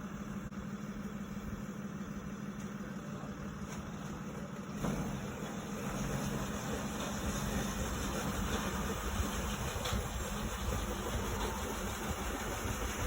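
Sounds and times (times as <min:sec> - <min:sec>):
snowcat engine idling: 0:00.0 - 0:13.0.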